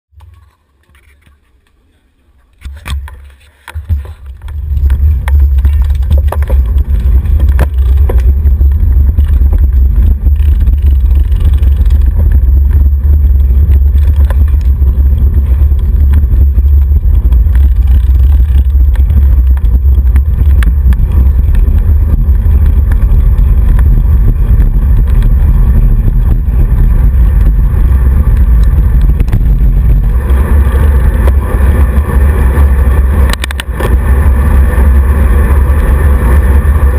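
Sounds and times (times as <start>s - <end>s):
wind buffeting microphone: 2.9s - 36.9s.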